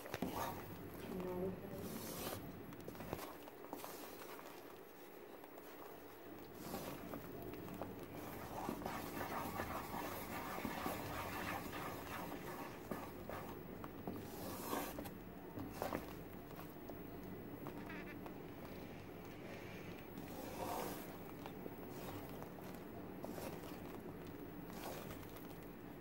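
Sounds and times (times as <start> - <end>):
spatula squelching in thick paste: 0.0 - 17.8, 19.1 - 26.0.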